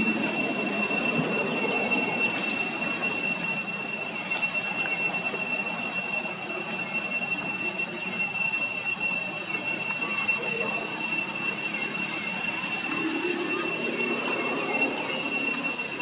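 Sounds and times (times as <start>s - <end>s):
high-pitched drone: 0.0s - 16.0s.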